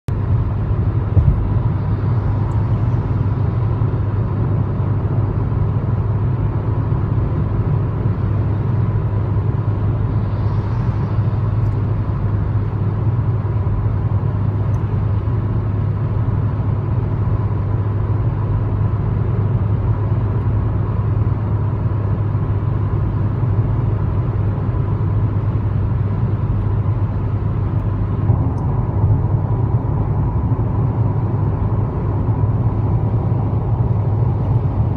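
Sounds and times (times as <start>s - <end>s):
engine and road rumble: 0.0s - 34.9s.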